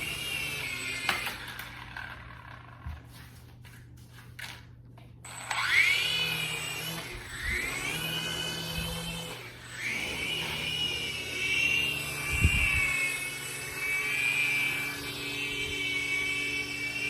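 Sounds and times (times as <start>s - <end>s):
toy drone rotors whining: 0.0s - 2.8s, 5.3s - 17.0s.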